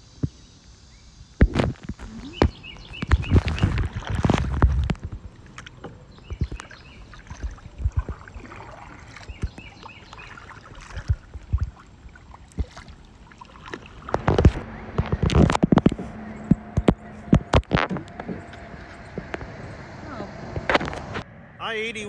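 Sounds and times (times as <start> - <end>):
paddle knocking on kayak: 1.4 - 19.5
paddle splashes on water: 1.4 - 19.6.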